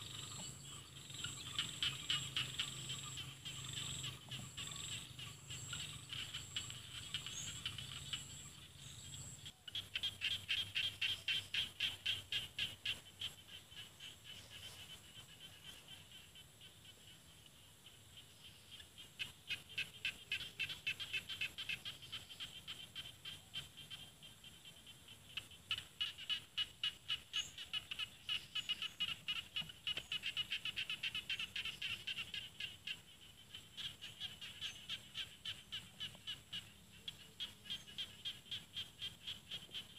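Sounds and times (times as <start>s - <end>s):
frogs calling in clicking pulses: 0.0s - 39.9s.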